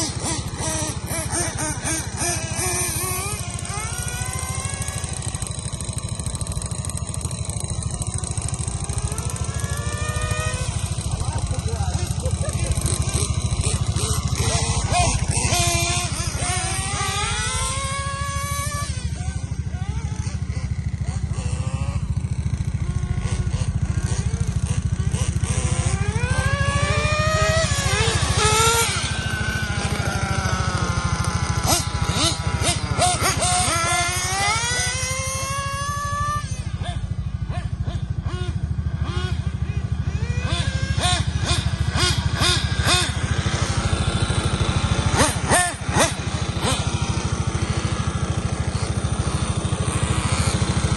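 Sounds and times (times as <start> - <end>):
rc car engines revving: 0.0 - 50.9
steady low hum: 0.0 - 50.9.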